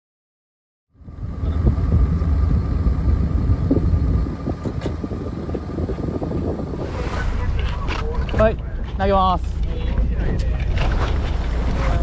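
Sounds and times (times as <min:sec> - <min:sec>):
boat engine humming: 0:00.9 - 0:12.0
wind rumbling on microphone: 0:01.0 - 0:12.0.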